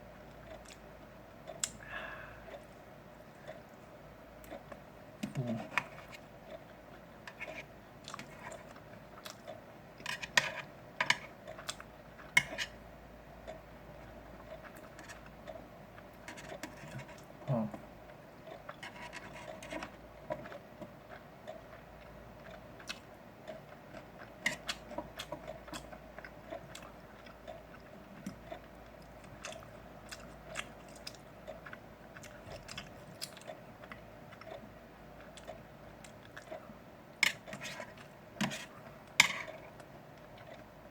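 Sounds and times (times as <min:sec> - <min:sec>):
faint hum: 0:00.0 - 0:40.9
person chewing: 0:00.4 - 0:00.9, 0:04.4 - 0:12.8, 0:14.3 - 0:40.8.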